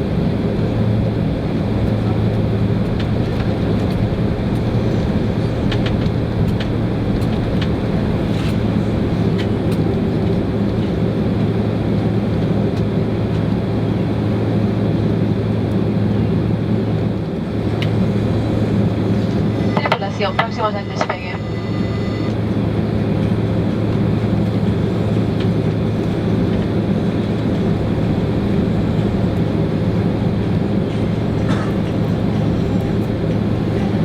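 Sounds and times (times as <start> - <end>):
jet cabin engine hum: 0.0 - 34.0.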